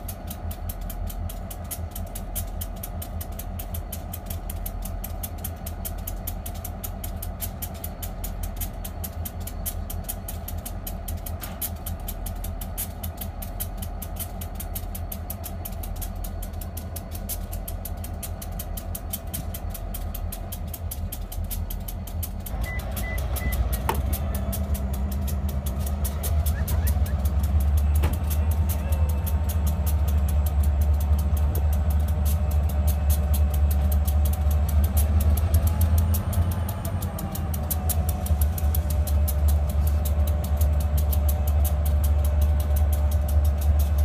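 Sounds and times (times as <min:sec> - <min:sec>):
diesel locomotive engine drone: 0:00.0 - 0:44.0.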